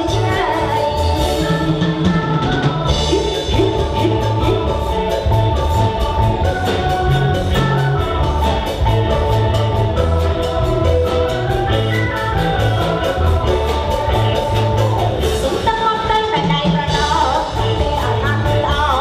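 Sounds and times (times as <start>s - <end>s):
loud music with steady beat: 0.0s - 16.1s.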